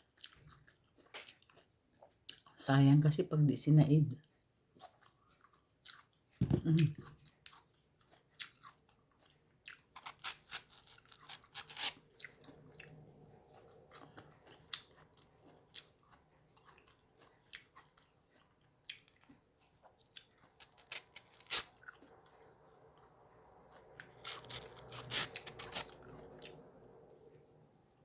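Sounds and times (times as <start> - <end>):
person chewing crisp fruit: 0.0 - 2.6, 4.1 - 28.0.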